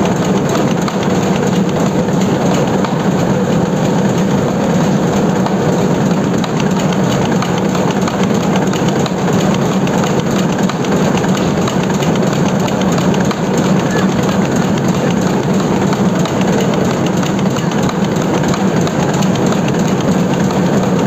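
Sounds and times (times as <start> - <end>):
printing press running: 0.0 - 21.0.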